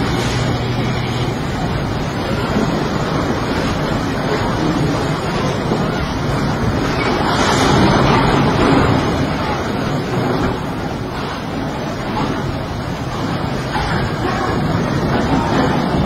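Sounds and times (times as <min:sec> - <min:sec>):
river rushing: 0:00.0 - 0:16.0
wind on microphone: 0:00.0 - 0:16.0.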